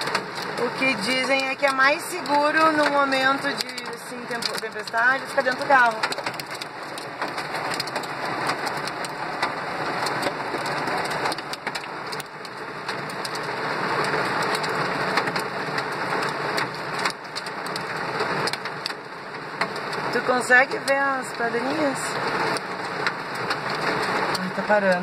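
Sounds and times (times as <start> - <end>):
hailstones ticking: 0.0 - 25.0
heavy rain on car roof: 0.0 - 25.0.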